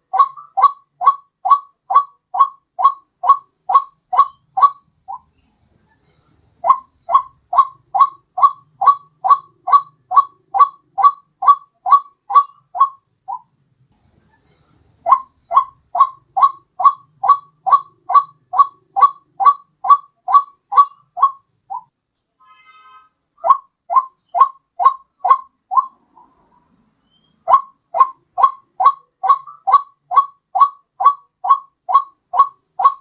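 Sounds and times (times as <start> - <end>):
waterhen call repeated: 0.0 - 5.2, 6.6 - 13.4, 15.1 - 21.8, 22.4 - 26.0, 27.5 - 33.0.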